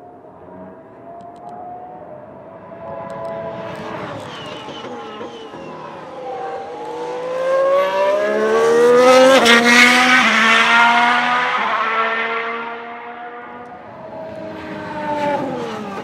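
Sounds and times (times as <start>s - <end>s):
racing car engine accelerating past: 1.6s - 16.0s.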